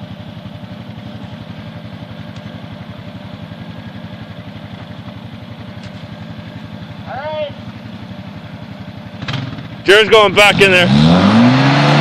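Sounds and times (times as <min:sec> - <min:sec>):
atv engine idling: 0:00.0 - 0:10.8.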